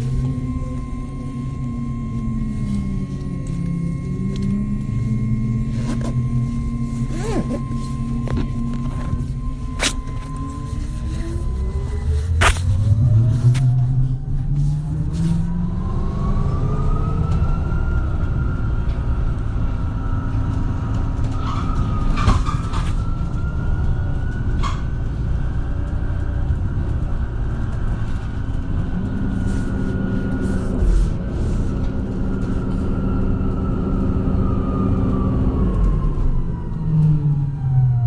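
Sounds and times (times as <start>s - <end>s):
electric bus whine: 0.0s - 38.0s
low rumble: 0.0s - 38.0s.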